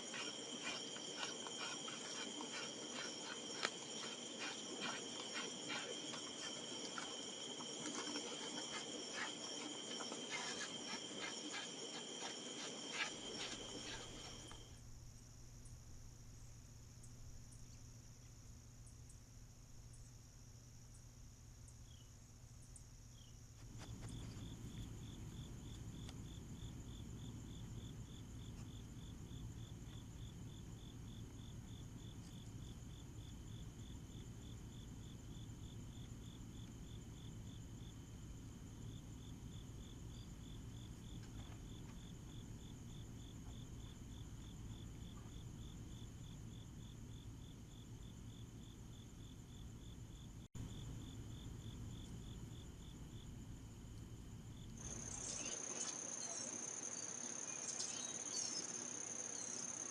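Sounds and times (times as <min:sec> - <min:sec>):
lower pulsed cricket trill: 0:00.0 - 0:59.9.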